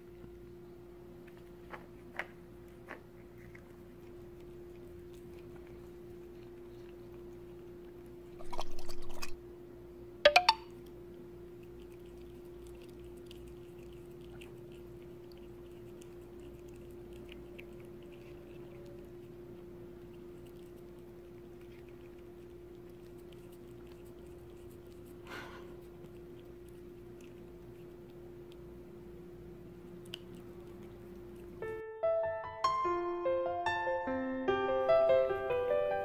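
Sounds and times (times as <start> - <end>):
cat chewing and licking: 1.1 - 9.4, 10.7 - 31.8.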